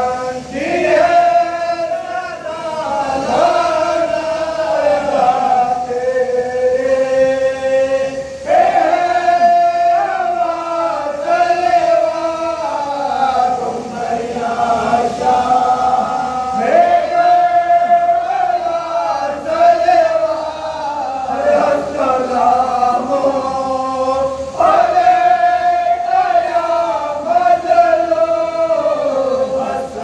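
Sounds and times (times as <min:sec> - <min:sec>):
men chanting together: 0:00.0 - 0:30.0.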